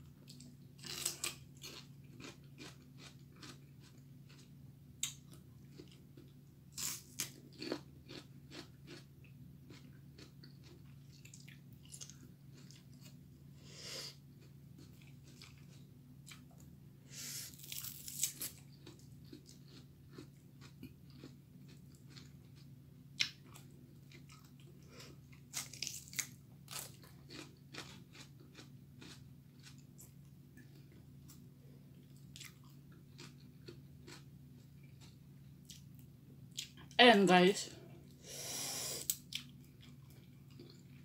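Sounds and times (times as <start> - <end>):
crunching and chewing: 0.2 - 13.2, 14.2 - 16.7, 17.5 - 37.0, 39.0 - 41.0.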